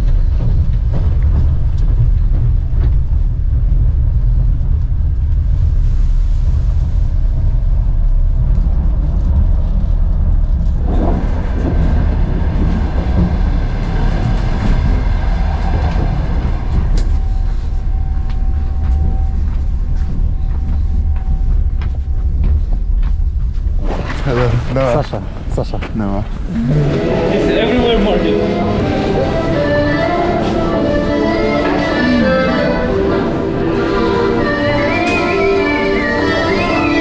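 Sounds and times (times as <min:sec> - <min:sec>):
train carriage rumble: 0:00.0 - 0:37.0.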